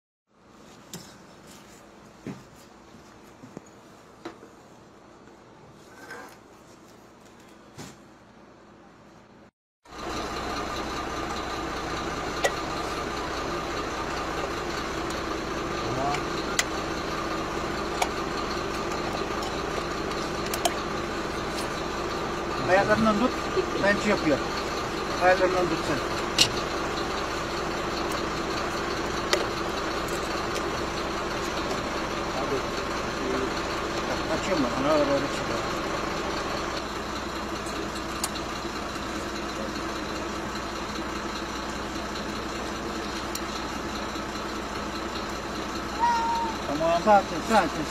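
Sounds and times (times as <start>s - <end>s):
vehicle engine idling: 0.3s - 47.9s.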